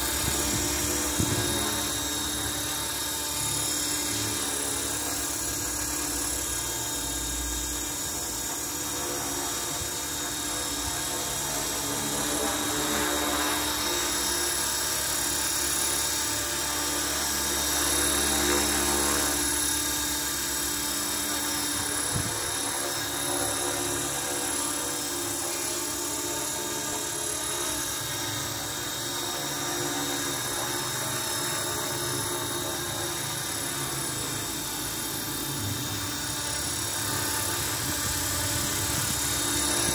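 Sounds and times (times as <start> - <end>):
electric helicopter motor whining: 0.0 - 39.9
rotors whirring: 0.0 - 39.9.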